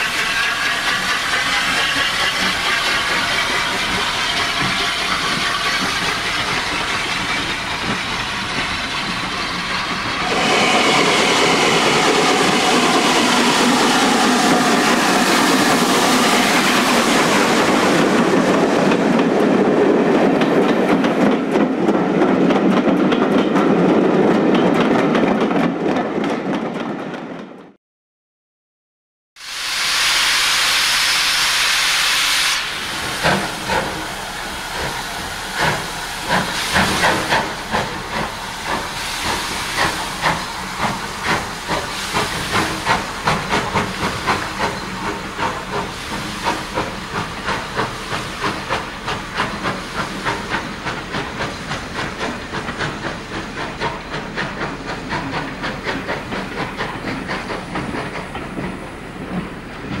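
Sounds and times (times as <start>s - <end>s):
loud steam hiss: 0.0s - 20.2s, 29.4s - 60.0s
steam locomotive exhaust beats: 0.0s - 27.4s, 29.4s - 60.0s.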